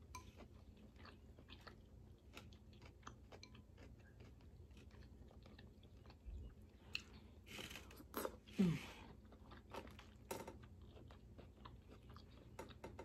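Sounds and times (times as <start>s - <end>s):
chewing crawfish: 0.0s - 13.0s.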